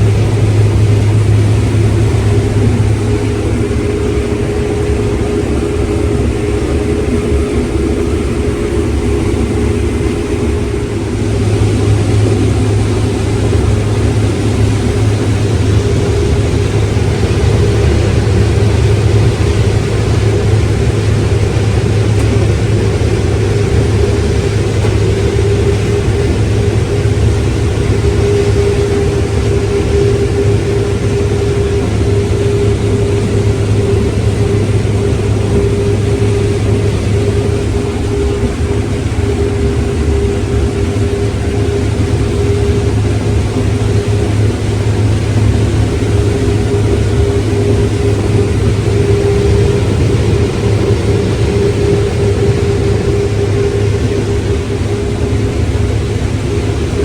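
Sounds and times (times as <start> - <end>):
heavy machinery engine running: 0.0 - 57.0
high-pitched whine: 0.0 - 57.0.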